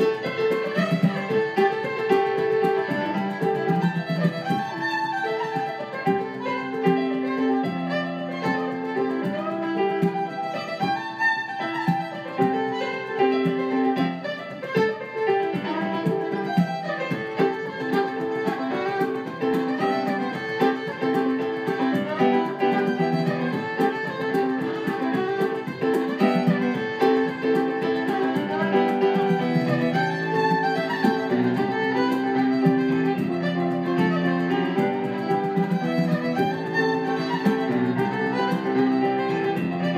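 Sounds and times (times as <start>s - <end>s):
fiddle: 0.0s - 39.9s
frame drum beating: 0.0s - 39.9s
piano: 0.0s - 39.9s.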